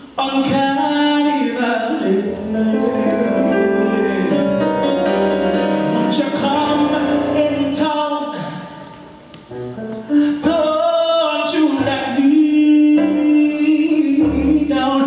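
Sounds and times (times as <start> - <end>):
person singing: 0.2 - 8.9, 9.6 - 15.0.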